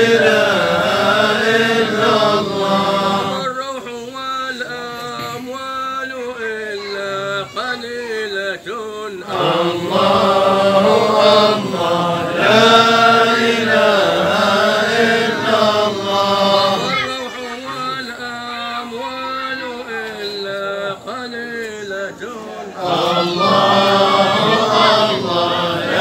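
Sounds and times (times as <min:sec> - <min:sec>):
men chanting melodically: 0:00.0 - 0:26.0.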